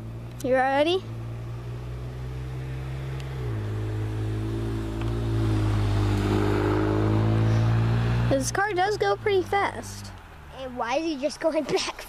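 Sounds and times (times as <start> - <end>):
suv exhaust note approaching: 0.0 - 10.2.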